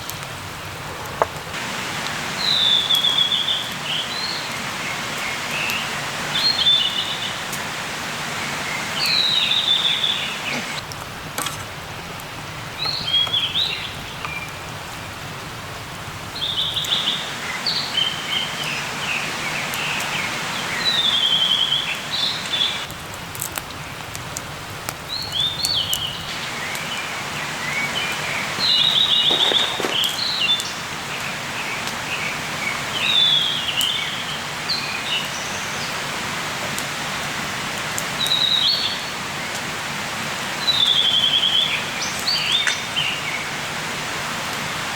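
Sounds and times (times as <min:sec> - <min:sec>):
songbirds singing: 0:00.0 - 0:43.7
steady hiss: 0:00.0 - 0:44.9.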